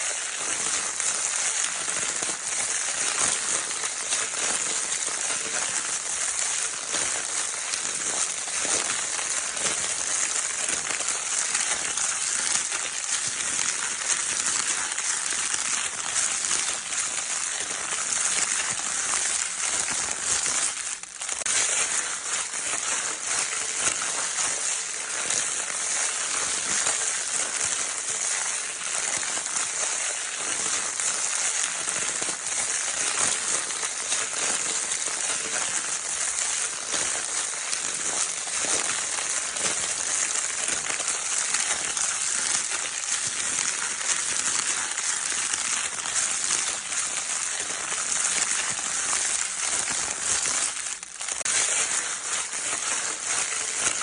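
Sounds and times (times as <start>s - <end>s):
crinkle paper scrunched: 0.0s - 54.0s.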